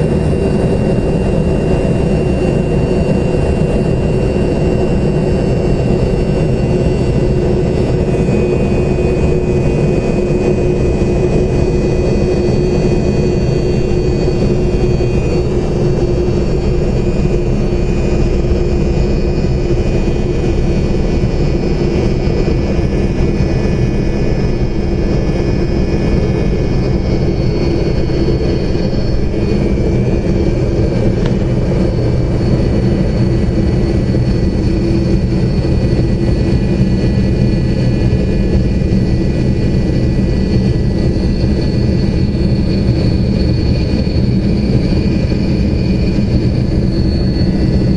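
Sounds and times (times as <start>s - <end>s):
jet engines at take-off power: 0.0s - 47.9s.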